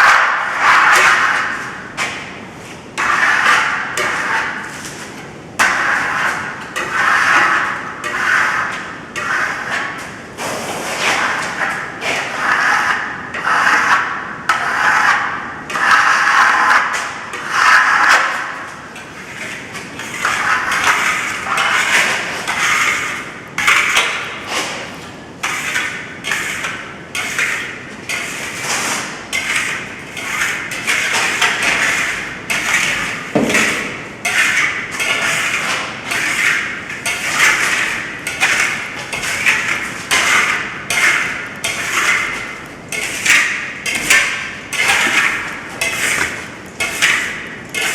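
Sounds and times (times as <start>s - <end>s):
steel trowel scraping plaster: 0.0s - 2.2s, 3.0s - 47.9s.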